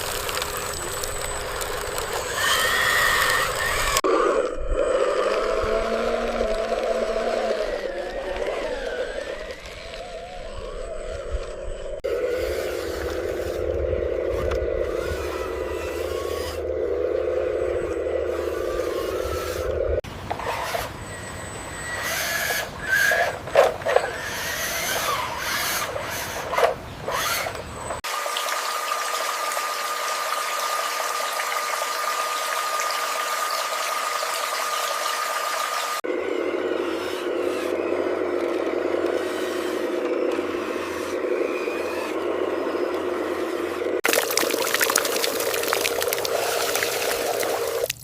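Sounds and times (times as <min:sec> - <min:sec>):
small electric motors whining: 0:00.0 - 0:44.0, 0:44.9 - 0:48.0.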